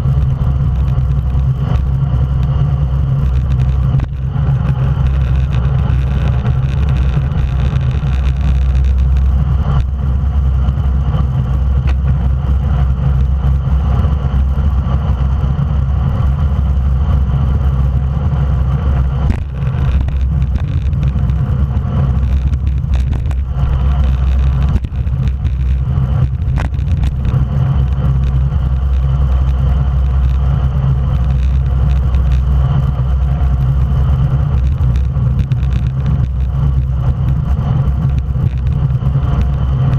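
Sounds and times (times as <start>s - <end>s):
tyres rumbling on road: 0.0s - 39.9s
wind rushing on microphone: 0.0s - 39.9s.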